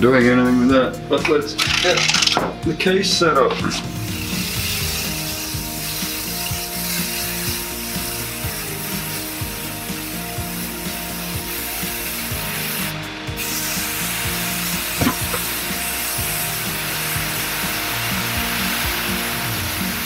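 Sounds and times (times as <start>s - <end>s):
spray paint can hissing: 1.6s - 2.5s, 3.5s - 20.0s.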